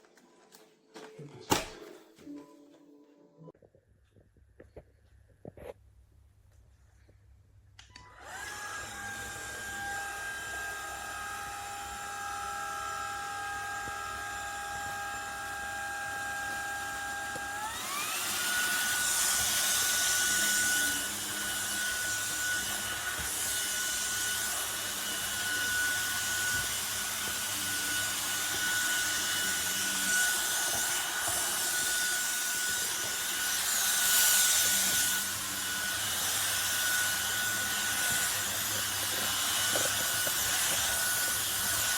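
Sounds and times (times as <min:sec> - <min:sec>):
vacuum motor whine: 0:07.9 - 0:41.9.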